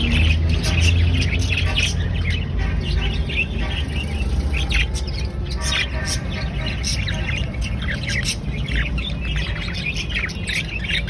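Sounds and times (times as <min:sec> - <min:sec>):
baby budgerigars chirping: 0:00.0 - 0:11.0.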